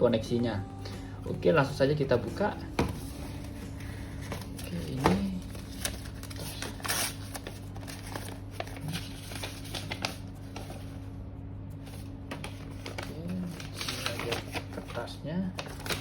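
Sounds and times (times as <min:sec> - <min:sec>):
steady low hum: 0:00.0 - 0:16.0
paper packaging rustling: 0:01.3 - 0:11.0, 0:11.8 - 0:16.0.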